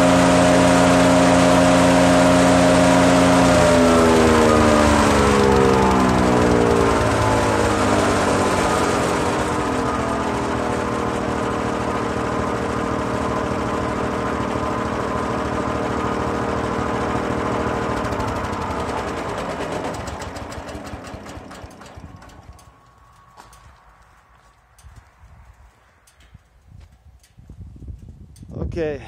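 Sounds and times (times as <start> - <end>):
shredder winding down ticking: 0.0 - 23.6
wood shredder running: 0.0 - 23.8.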